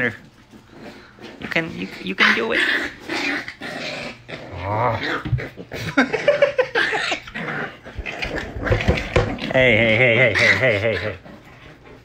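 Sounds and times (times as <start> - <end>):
puppy growls: 0.0 - 12.0.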